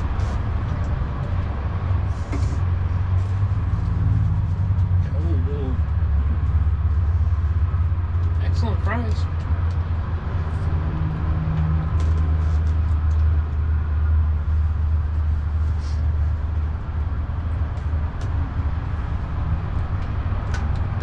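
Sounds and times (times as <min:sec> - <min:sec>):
low motor drone: 0:00.0 - 0:21.0.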